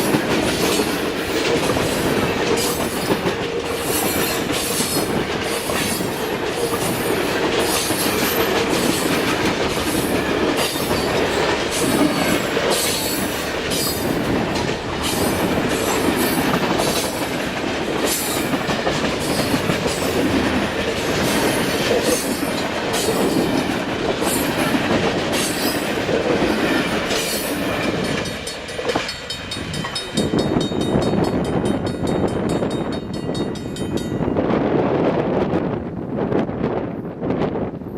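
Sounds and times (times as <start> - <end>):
train wheels clicking over rail joints: 0.0 - 34.3
wind on microphone: 0.1 - 37.9.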